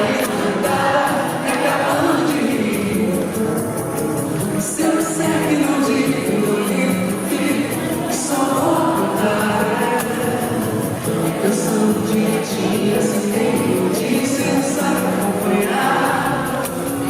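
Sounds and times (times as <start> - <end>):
live pop band music: 0.0 - 17.0
person singing: 0.0 - 17.0.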